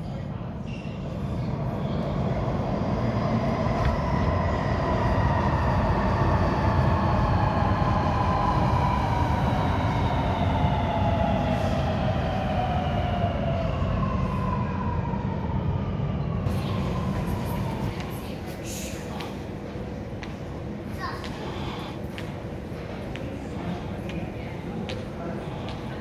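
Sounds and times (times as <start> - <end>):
low train rumble: 0.0 - 26.0.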